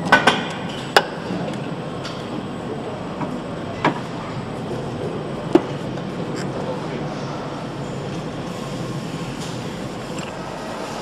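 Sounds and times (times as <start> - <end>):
assembly hall background noise: 0.0 - 11.0.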